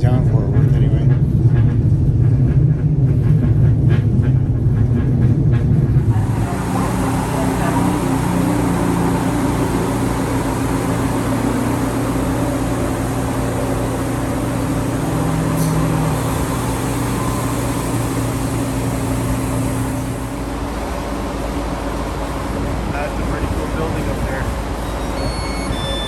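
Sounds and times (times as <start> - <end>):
train engine hum and rumble: 0.0 - 26.0.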